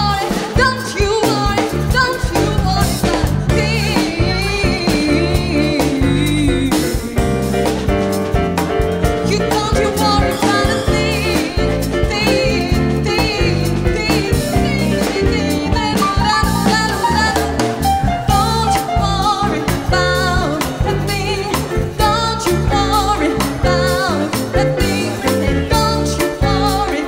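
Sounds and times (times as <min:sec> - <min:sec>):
woman singing with vibrato: 0:00.0 - 0:07.7, 0:09.2 - 0:27.0
drum kit: 0:00.0 - 0:27.0
electric bass: 0:00.0 - 0:27.0
electric keyboard: 0:00.0 - 0:27.0.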